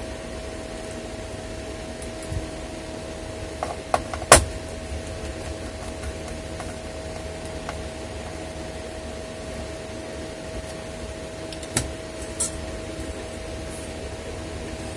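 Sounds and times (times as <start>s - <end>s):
electric fan humming: 0.0s - 14.9s.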